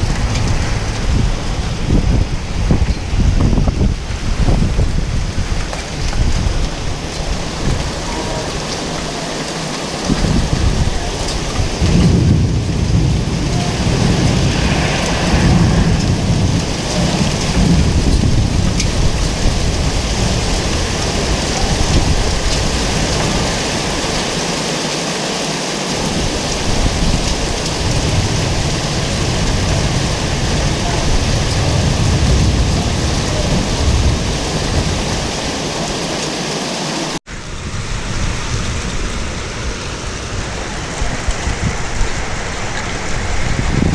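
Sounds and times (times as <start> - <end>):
thunder rumbling: 0.0 - 24.6, 25.9 - 43.9
heavy rain pouring: 0.0 - 43.9.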